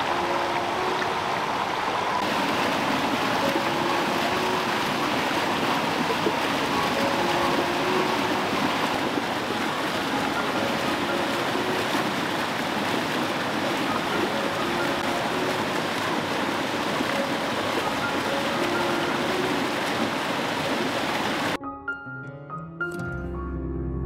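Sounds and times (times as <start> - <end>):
brook splashing over rocks: 0.0 - 21.6.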